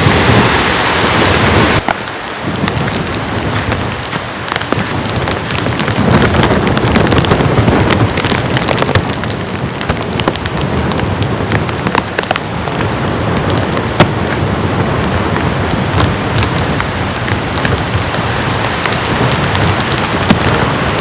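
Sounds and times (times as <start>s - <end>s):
heavy rain: 0.0s - 21.0s
raindrops tapping close by: 0.0s - 21.0s.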